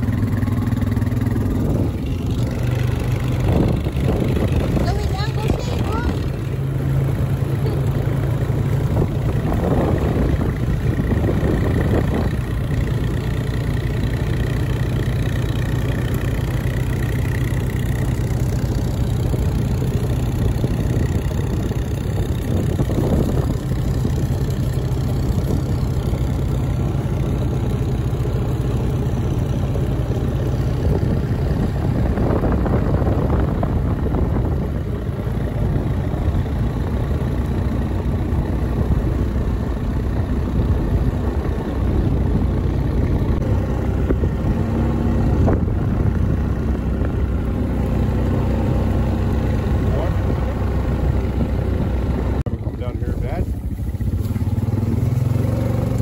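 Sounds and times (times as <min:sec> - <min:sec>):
quad engine running: 0:00.0 - 0:56.0.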